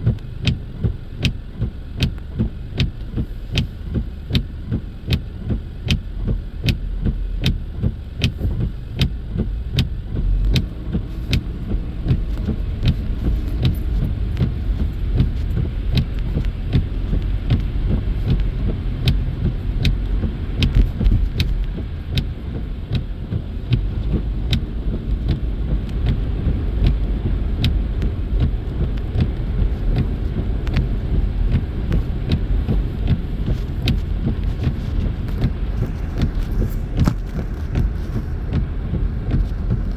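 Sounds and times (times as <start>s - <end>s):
car road rumble inside cabin: 0.0s - 39.9s
regular ticking: 0.0s - 39.9s.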